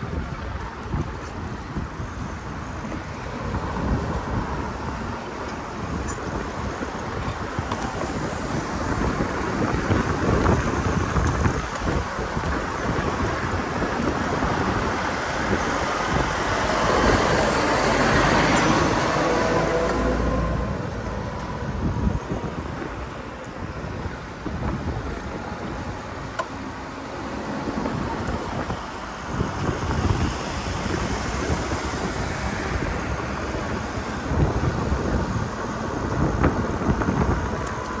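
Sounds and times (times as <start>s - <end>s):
road traffic: 0.0s - 38.0s
wind rushing over microphone: 0.0s - 38.0s.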